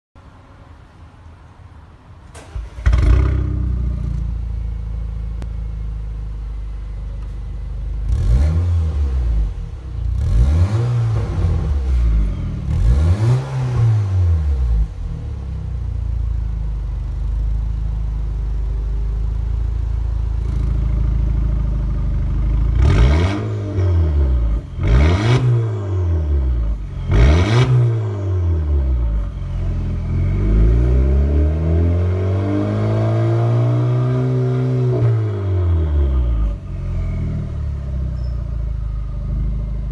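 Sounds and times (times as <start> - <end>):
car engine idling and revving: 2.3 - 39.9.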